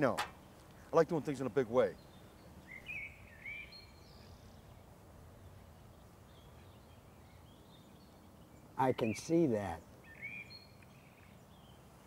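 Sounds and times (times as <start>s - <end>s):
steady low hiss: 0.0s - 12.0s
faint bird chirps: 1.8s - 11.9s.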